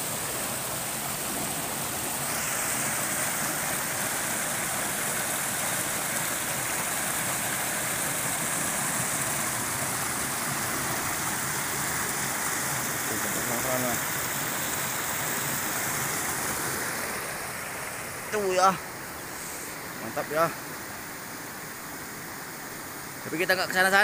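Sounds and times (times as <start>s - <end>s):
river water rushing over rocks: 0.0s - 24.0s.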